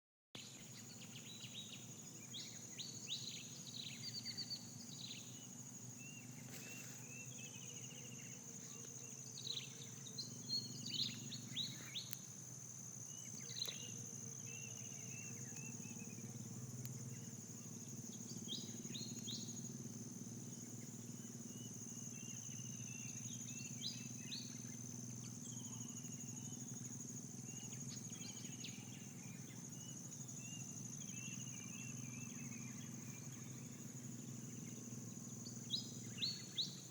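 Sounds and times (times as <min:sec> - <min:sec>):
insects droning: 0:00.4 - 0:36.9.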